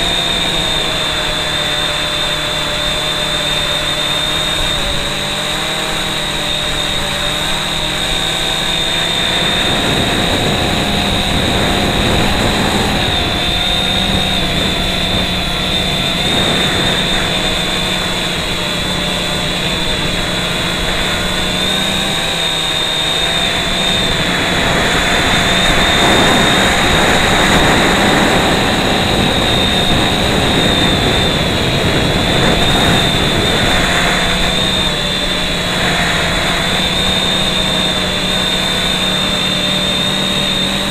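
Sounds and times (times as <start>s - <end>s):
drone motors whining: 0.0s - 40.9s
rushing air noise: 0.0s - 40.9s.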